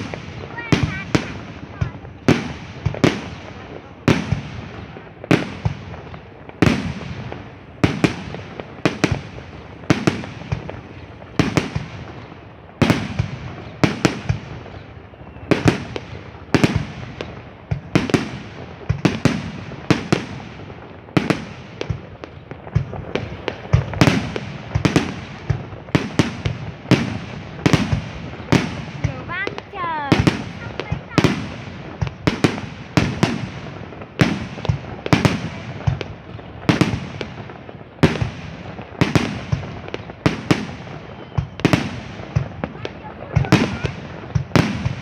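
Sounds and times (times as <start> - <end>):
fireworks bangs: 0.0 - 45.0
fireworks rumble and crackle: 0.0 - 45.0.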